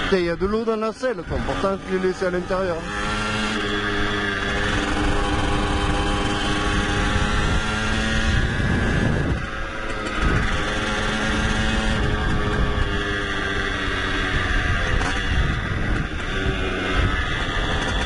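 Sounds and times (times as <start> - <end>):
small motorbike engine running: 0.0 - 18.0.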